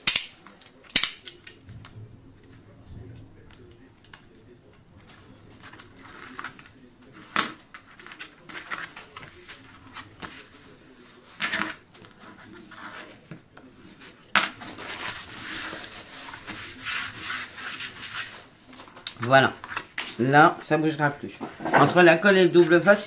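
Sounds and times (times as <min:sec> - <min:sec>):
paper and card rustling: 0:00.4 - 0:23.0.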